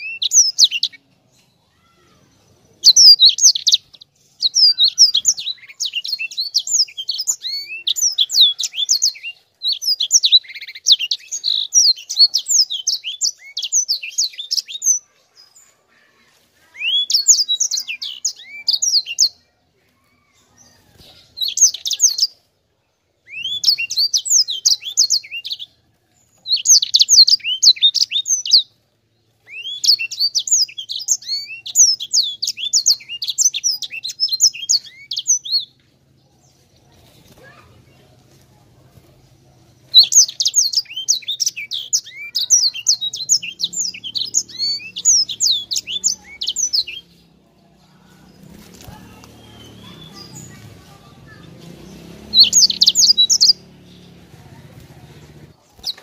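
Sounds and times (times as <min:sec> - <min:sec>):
finch singing: 0:00.0 - 0:19.5, 0:20.1 - 0:22.4, 0:23.2 - 0:56.0.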